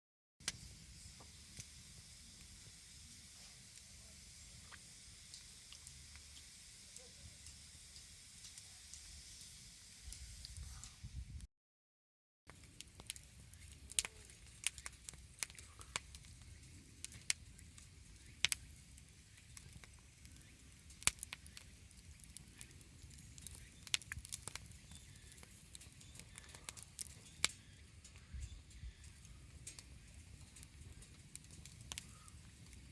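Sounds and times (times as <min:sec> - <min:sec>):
campfire crackling: 0:00.4 - 0:11.0, 0:12.5 - 0:32.9
low steady fire rumble: 0:00.4 - 0:11.5, 0:12.5 - 0:32.9.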